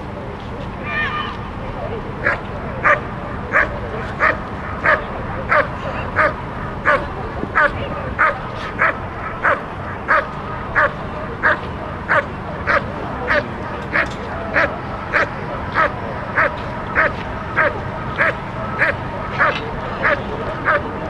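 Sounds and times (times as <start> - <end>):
dog barking: 2.2 - 14.0, 14.6 - 20.8.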